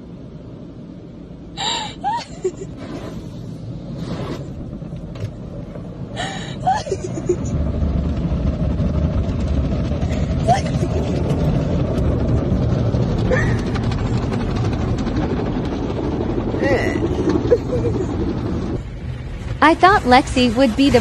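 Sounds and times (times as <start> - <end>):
car wash machinery rumble: 0.0 - 21.0.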